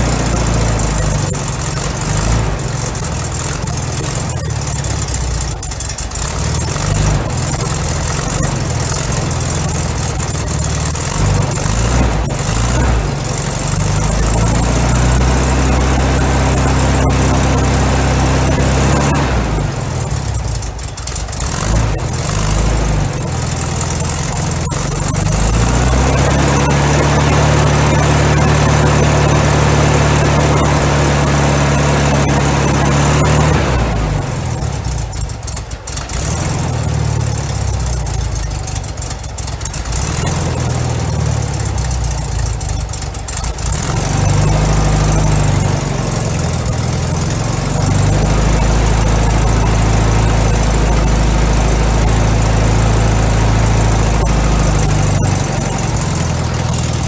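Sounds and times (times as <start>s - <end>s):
car engine running unevenly: 0.0s - 57.0s.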